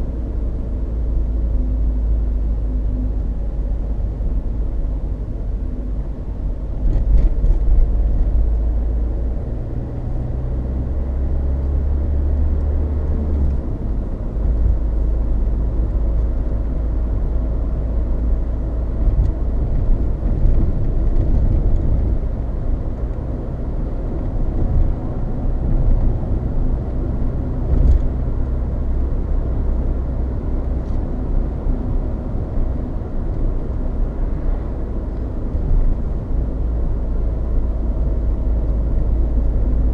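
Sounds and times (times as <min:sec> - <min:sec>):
tyre roar and road rumble: 0:00.0 - 0:39.9.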